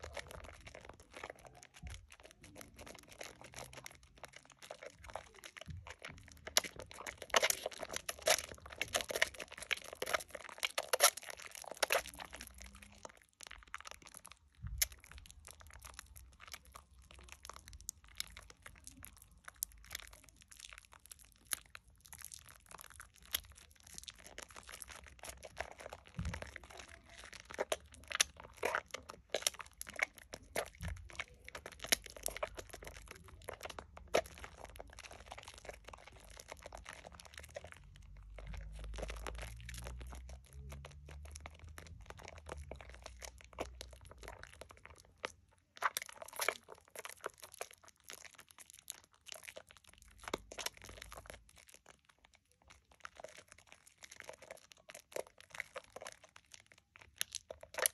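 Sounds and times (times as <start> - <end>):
wet soap lather squelching: 0.0 - 57.9.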